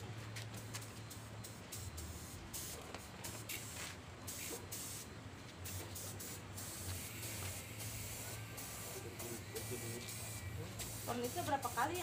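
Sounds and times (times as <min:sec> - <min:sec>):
spray gun hissing bursts: 0:01.4 - 0:12.0.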